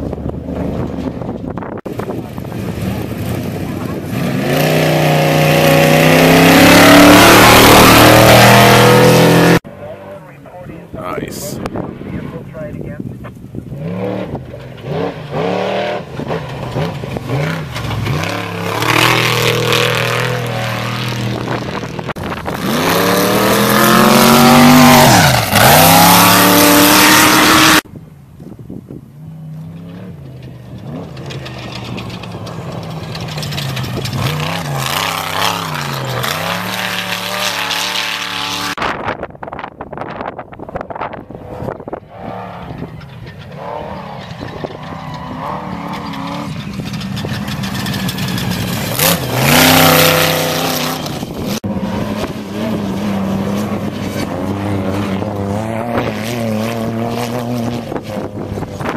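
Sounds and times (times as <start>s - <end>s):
race vehicle engines revving: 0.0s - 27.9s, 28.9s - 58.9s.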